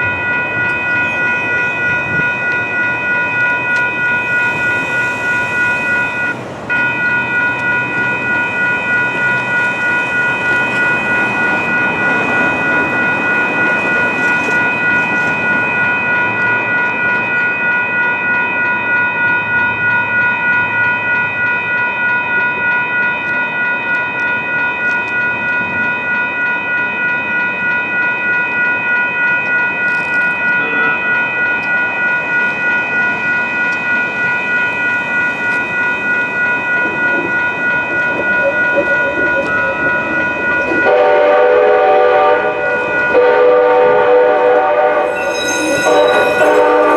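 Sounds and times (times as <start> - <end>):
crossing warning bell ringing: 0.0 - 46.9.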